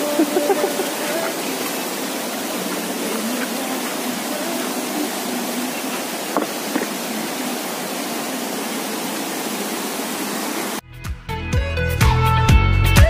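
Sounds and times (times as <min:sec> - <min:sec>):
mountain stream rushing: 0:00.0 - 0:10.8.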